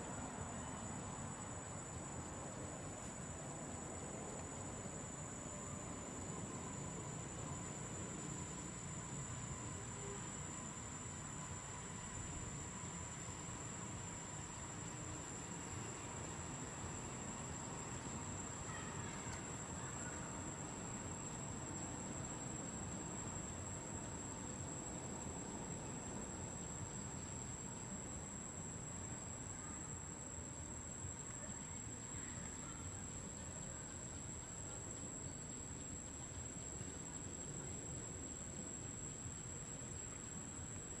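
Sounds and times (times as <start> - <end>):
low even hiss: 0.0 - 41.0.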